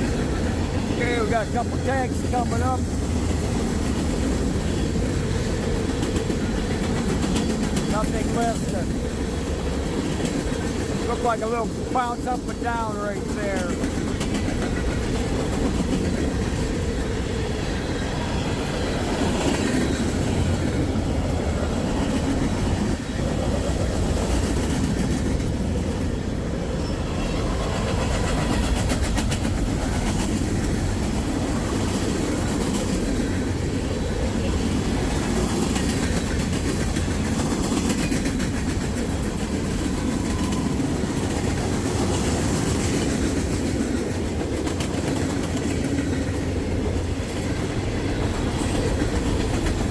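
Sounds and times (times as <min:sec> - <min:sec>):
freight train wheels rumbling: 0:00.0 - 0:49.9
wheels clacking over rail joints: 0:00.0 - 0:49.9.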